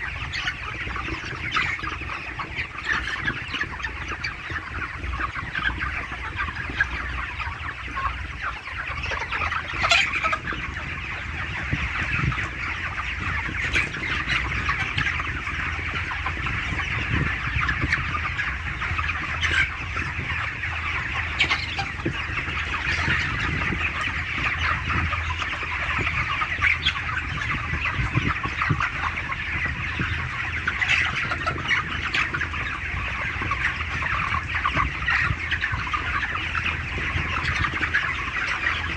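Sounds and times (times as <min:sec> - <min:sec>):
chickens clucking and peeping: 0:00.0 - 0:38.9.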